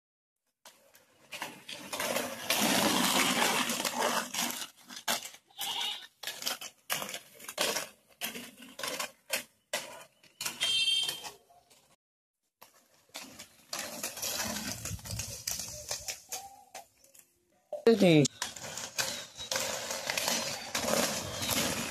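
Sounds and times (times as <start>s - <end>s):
skate wheels rolling on rough road: 0.6s - 21.9s.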